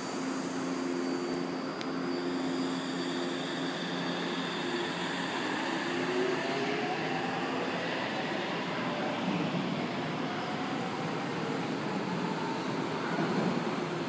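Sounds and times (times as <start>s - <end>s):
train motors rumbling and humming: 0.0s - 14.0s
train whine: 0.0s - 14.0s.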